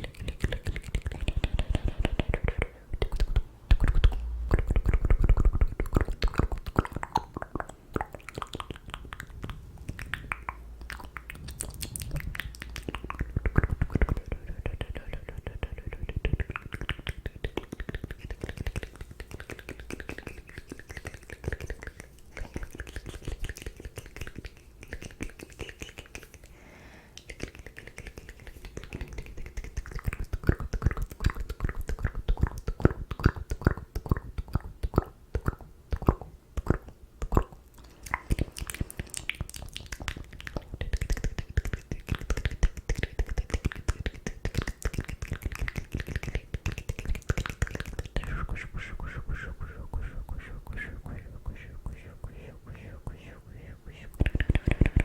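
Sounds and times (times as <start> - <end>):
wet tongue and lip clicks: 0.0 - 26.5, 27.2 - 55.0.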